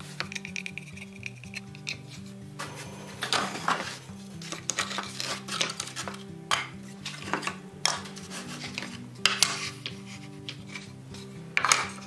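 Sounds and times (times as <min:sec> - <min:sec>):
background music with bass line: 0:00.0 - 0:12.0
wood scraping on workbench: 0:01.8 - 0:12.0.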